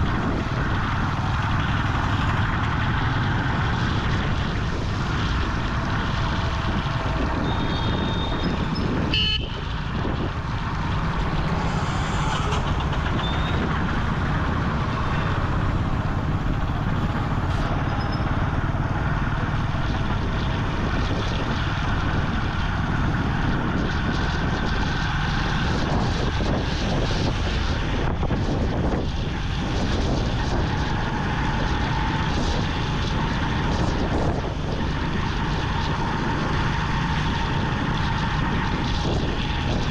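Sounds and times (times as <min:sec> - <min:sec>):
motorcycle engine: 0:00.0 - 0:39.9
wet road noise: 0:00.0 - 0:39.9
wind noise: 0:00.0 - 0:39.9.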